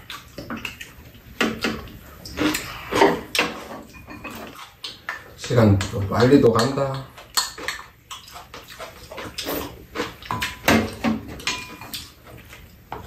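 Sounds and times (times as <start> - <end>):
wet chewing and slurping: 0.0 - 13.0
utensils clinking against bowls: 1.4 - 13.0.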